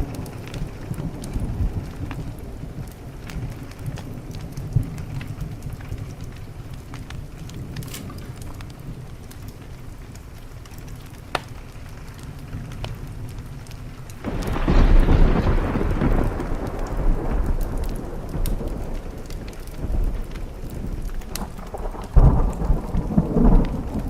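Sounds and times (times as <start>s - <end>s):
steady rain: 0.0s - 24.0s
thunder clap rolling: 0.0s - 24.0s.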